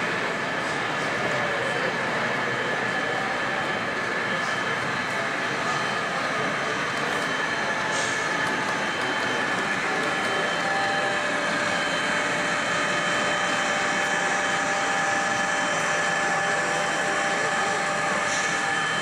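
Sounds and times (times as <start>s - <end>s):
exhibition hall din: 0.0s - 19.0s.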